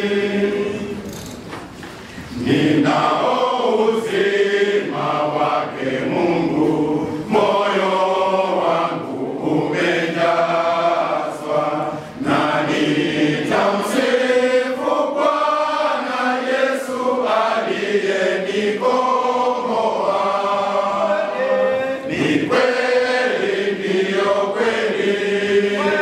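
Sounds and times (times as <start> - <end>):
men's choir singing a hymn: 0.0 - 26.0.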